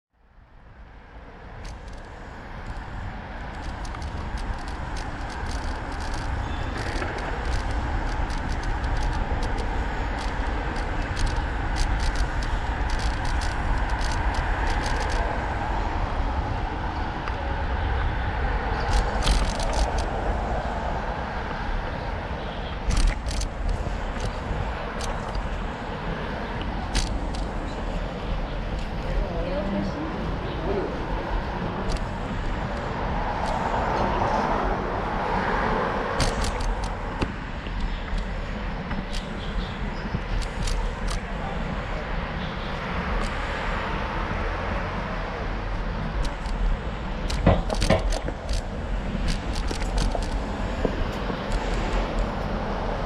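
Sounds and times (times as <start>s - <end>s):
road traffic: 0.1s - 53.0s
wind rumbling on microphone: 0.2s - 53.0s
bicycle clicks and rattles: 1.5s - 17.5s, 18.7s - 20.8s, 21.9s - 29.1s, 31.6s - 34.0s, 35.3s - 44.4s, 45.0s - 53.0s.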